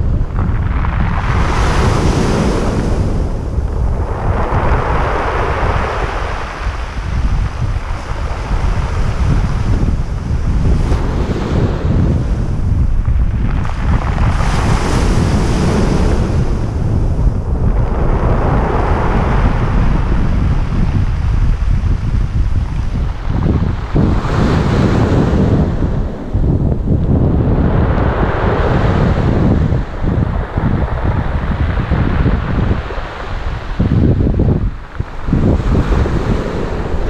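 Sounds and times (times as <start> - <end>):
surf breaking on shore: 0.0 - 37.0
wind rumble on microphone: 0.0 - 37.0.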